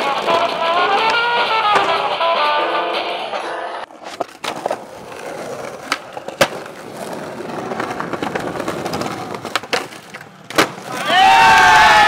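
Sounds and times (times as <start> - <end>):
skateboard clacks: 0.0 - 2.6, 3.8 - 12.0
skateboard rolling on pavement: 0.0 - 12.0.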